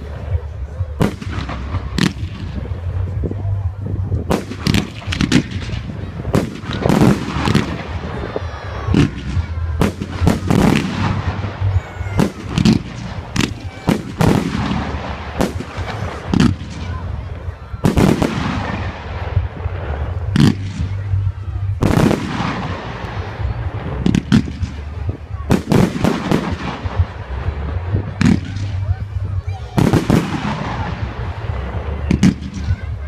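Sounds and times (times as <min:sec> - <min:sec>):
fireworks bangs: 0:01.0 - 0:33.0.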